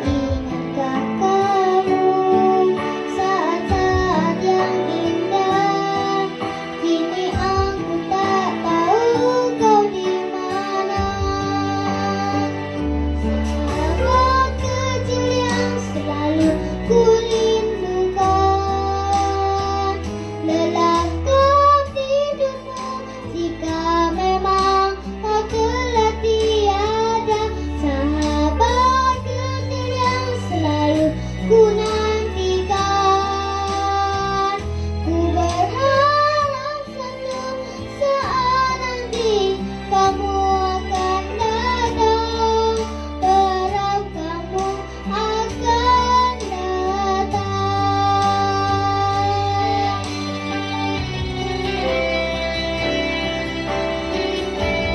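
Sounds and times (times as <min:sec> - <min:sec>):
backing track with bass: 0:00.0 - 0:54.9
person singing pop ballad: 0:00.0 - 0:54.9.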